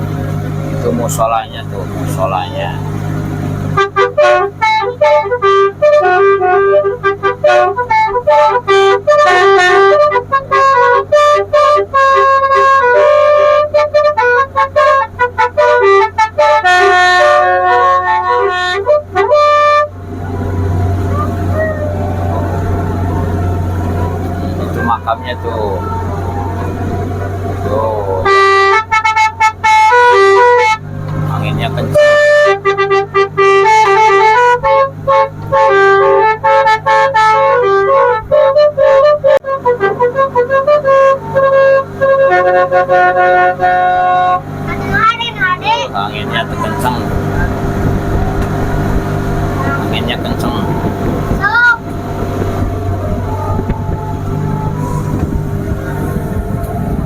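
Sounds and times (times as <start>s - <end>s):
boat engine hum: 0.0s - 57.0s
musical horn playing a tune: 3.6s - 57.0s.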